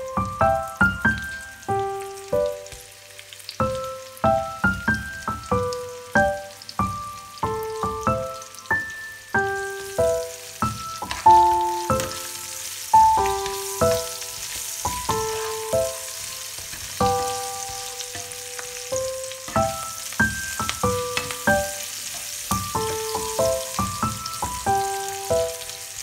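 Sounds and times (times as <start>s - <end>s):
food sizzling in oil: 0.0s - 26.0s
music with ringing notes: 3.6s - 25.9s.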